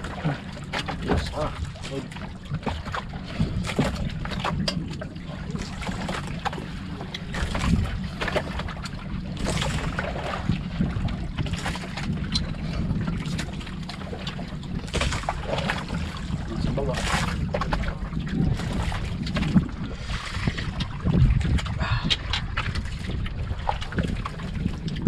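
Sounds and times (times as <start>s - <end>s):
sea noise: 0.0s - 25.0s
wind: 0.0s - 25.0s.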